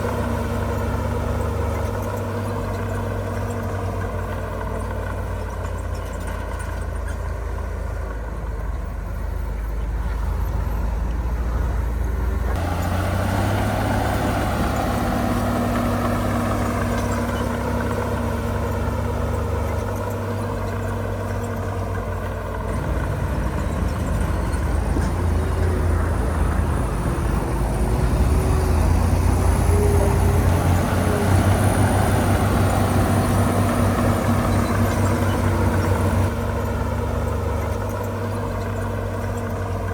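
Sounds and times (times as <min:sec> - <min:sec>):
heavy diesel engines working: 0:00.0 - 0:39.9.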